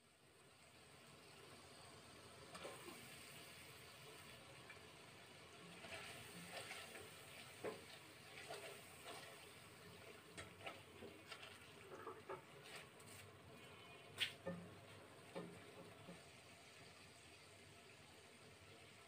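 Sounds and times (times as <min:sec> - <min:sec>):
thick sauce bubbling in a pot: 0:00.0 - 0:19.0.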